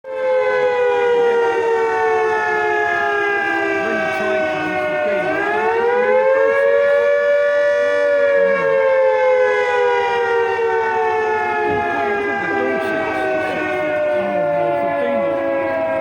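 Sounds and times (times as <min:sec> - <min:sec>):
air raid siren wailing: 0:00.0 - 0:16.0.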